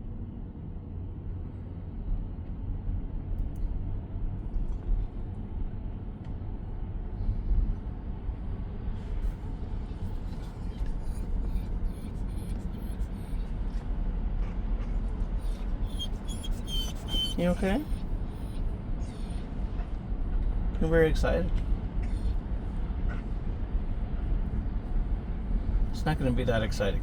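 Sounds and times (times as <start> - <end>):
tyre and road noise in car cabin: 0.1 - 27.0.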